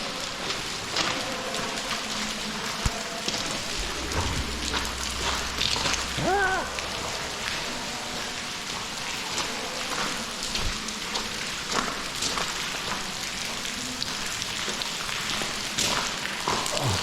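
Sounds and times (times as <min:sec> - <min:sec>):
water dripping and splattering: 0:00.0 - 0:17.0.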